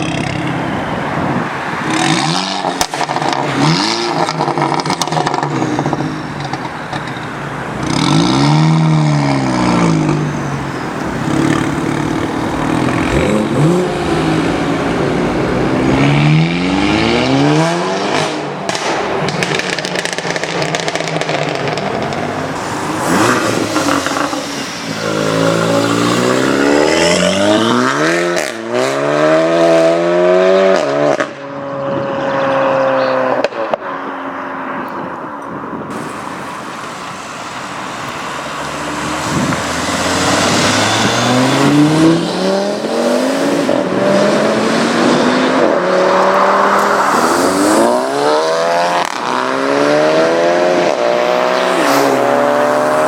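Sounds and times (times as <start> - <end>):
cars accelerating hard: 0.0 - 53.0.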